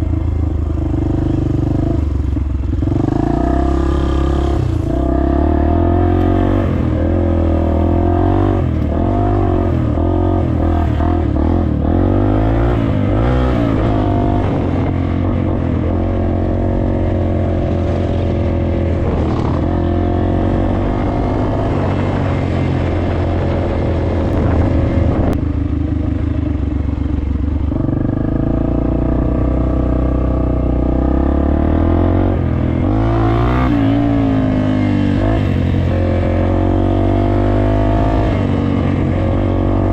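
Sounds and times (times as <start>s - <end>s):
dirt bike engine revving: 0.8s - 25.4s, 27.7s - 39.9s.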